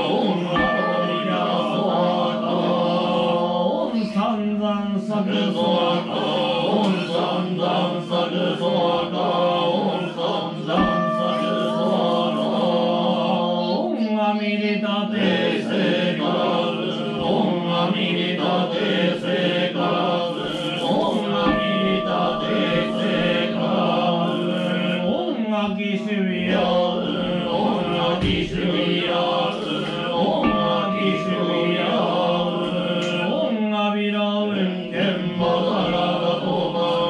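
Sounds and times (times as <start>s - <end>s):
men chanting: 0.0s - 37.0s.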